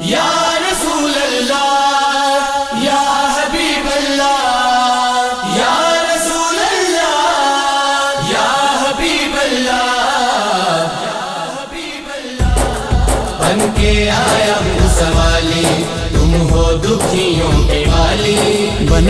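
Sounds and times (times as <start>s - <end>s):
hummed vocal backing: 0.0s - 19.0s
man singing wordless devotional song: 0.0s - 19.0s.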